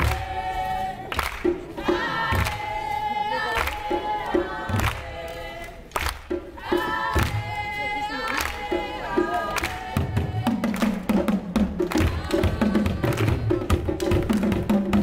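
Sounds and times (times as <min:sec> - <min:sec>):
drums beating: 0:00.0 - 0:15.0
group of voices singing: 0:00.0 - 0:15.0.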